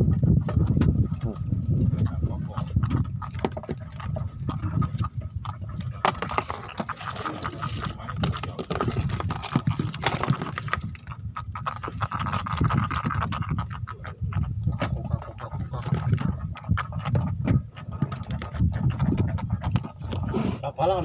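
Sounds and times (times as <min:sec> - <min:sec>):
fish flapping on wooden deck: 0:02.6 - 0:20.4.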